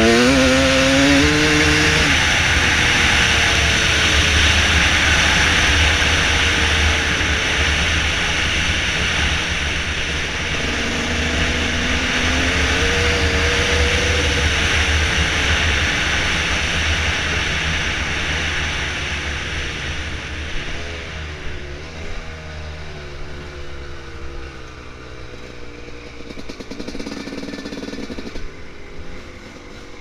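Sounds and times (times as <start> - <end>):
dirt bike engine: 0.0 - 30.0.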